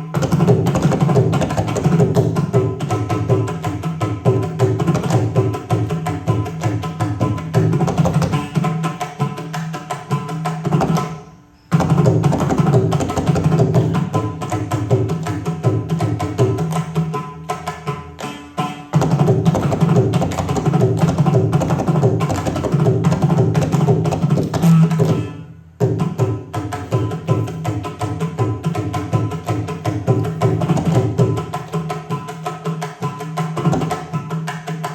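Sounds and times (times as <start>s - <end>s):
fast hand-drum strokes: 0.0s - 34.9s.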